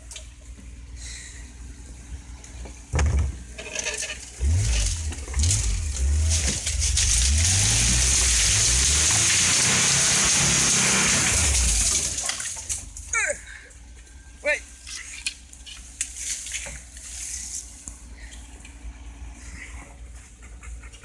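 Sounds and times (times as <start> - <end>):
vehicle engine at low revs: 0.0 - 21.0.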